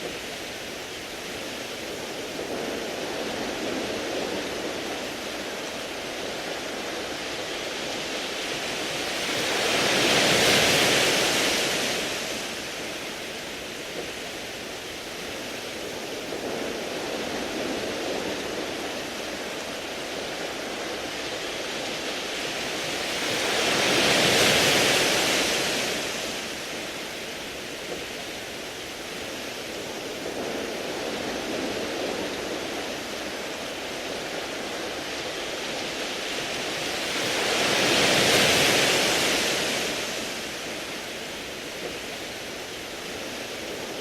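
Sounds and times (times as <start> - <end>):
waves washing over pebbles: 0.0 - 44.0.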